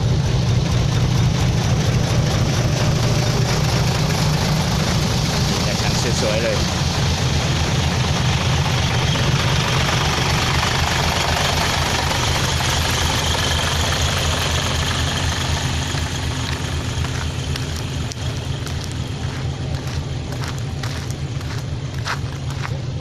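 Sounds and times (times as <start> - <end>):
dump truck diesel engine: 0.0 - 23.0.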